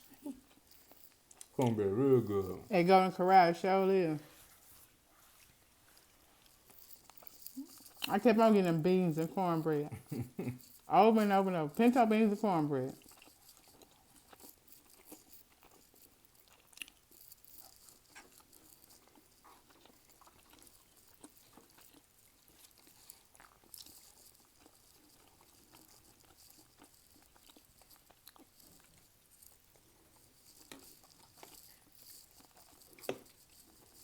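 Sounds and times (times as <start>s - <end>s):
faint chewing: 0.0s - 34.0s.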